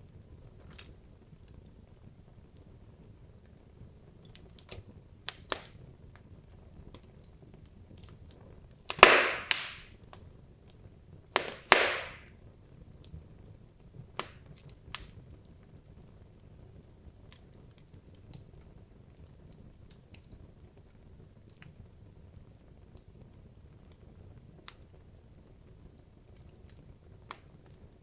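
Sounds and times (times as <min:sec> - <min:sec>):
logs crackling in a fireplace: 0:00.0 - 0:28.0.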